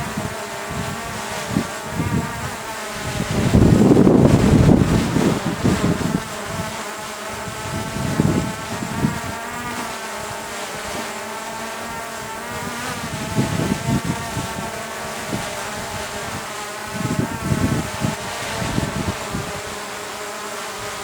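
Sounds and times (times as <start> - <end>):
wind buffeting microphone: 0.0 - 11.0, 11.9 - 19.9
drone propellers buzzing: 0.0 - 21.0.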